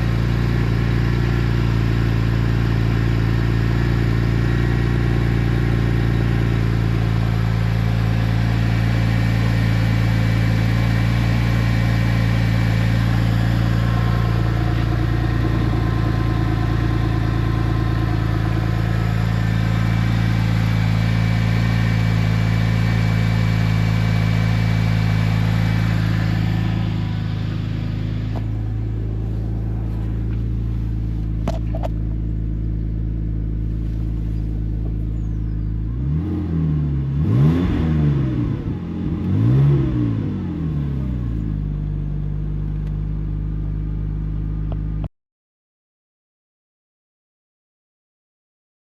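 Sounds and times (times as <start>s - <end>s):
car engine idling: 0.0s - 37.5s, 38.1s - 45.1s.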